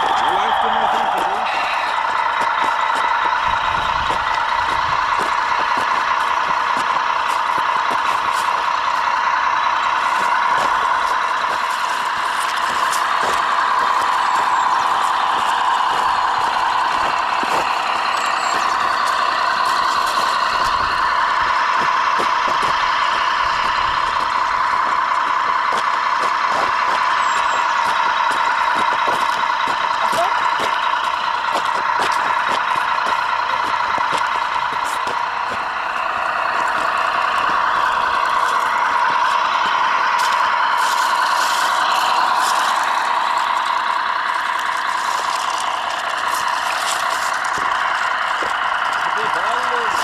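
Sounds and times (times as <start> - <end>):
gravel clicks under tyres: 0.0 - 50.0
model truck motor drone: 0.0 - 50.0.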